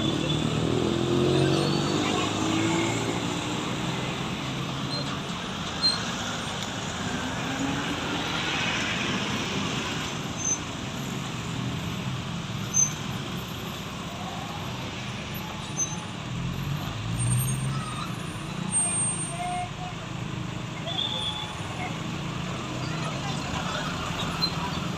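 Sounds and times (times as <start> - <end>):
road traffic passing: 0.0 - 24.9.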